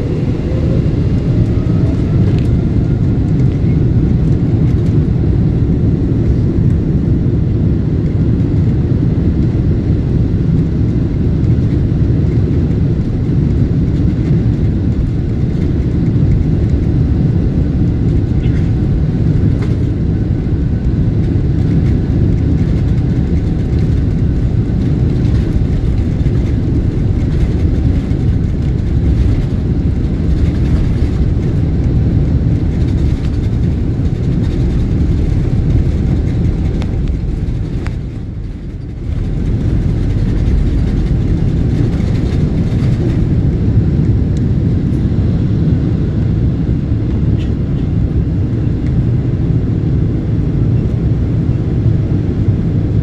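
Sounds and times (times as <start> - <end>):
aircraft cabin rumble: 0.0 - 53.0.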